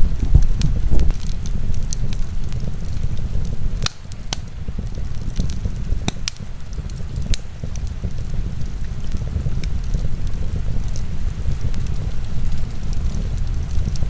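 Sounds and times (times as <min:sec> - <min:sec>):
heavy rain: 0:00.0 - 0:14.0
wood fire crackling: 0:00.0 - 0:14.0.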